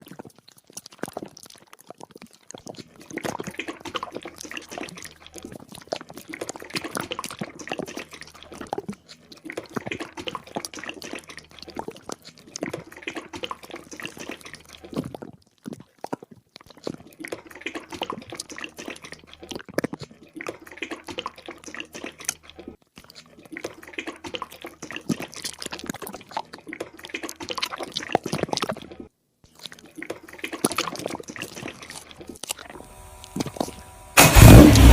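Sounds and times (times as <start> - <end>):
oil glugging and splashing: 0.0 - 34.9.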